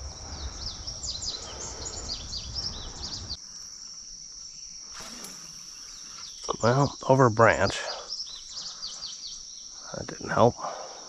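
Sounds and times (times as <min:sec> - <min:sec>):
high insect drone: 0:00.0 - 0:11.0
songbird singing: 0:00.0 - 0:11.0.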